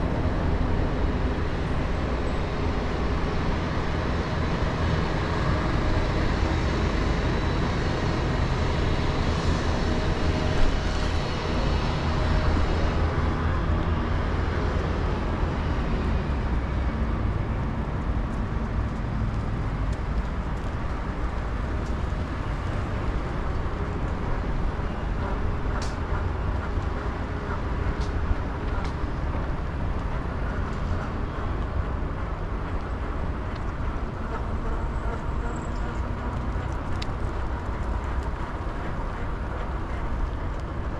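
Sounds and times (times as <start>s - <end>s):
heavy low rumble: 0.0s - 40.9s
road and traffic noise: 0.0s - 40.9s.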